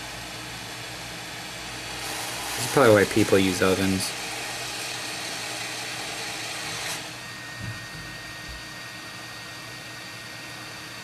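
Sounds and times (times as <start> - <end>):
faint steady whine: 0.0 - 11.0
hot air blower hissing: 0.0 - 11.0.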